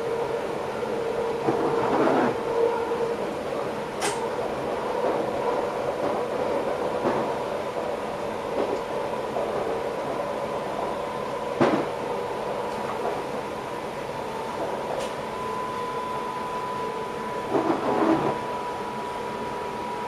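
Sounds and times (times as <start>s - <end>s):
train cab rumble and hum: 0.0s - 20.0s.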